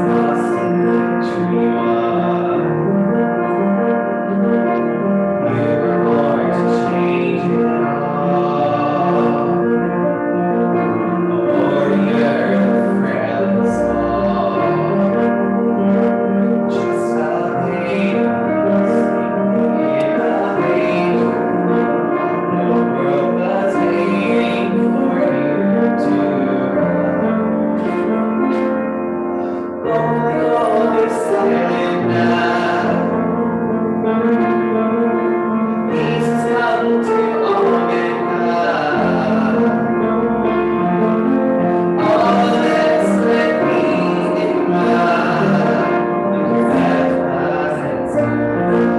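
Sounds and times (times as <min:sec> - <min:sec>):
keyboard piano accompaniment: 0:00.0 - 0:48.9
man singing: 0:00.0 - 0:48.9.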